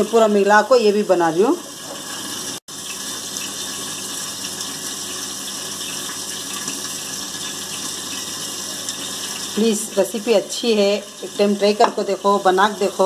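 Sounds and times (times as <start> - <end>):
water tap running: 0.0 - 13.0.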